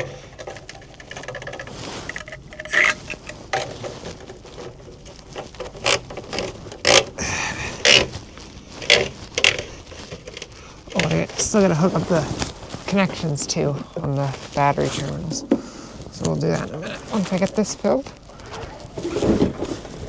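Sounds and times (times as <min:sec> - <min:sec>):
handling knocks and rustles: 0:00.0 - 0:20.0.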